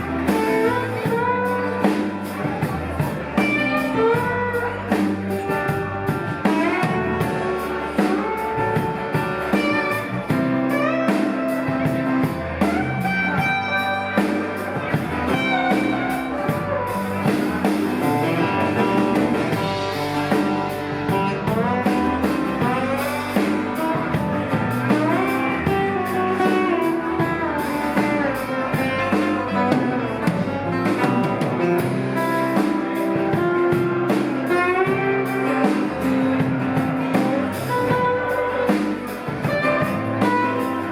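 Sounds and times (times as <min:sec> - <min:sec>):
blues band playing: 0:00.0 - 0:40.9
lead guitar: 0:00.0 - 0:40.9.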